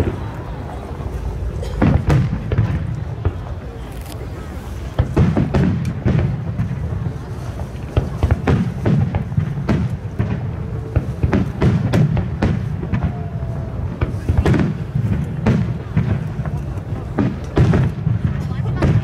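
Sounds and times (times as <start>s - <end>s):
steady low rumble: 0.0s - 18.8s.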